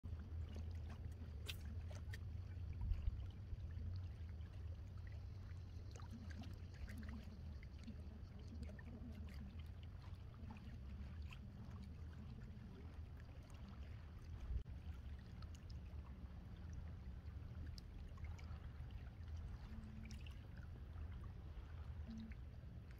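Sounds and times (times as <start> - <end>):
steady low rumble: 0.0 - 22.9
water lapping and trickling: 0.0 - 22.9
small splashes: 0.1 - 22.9.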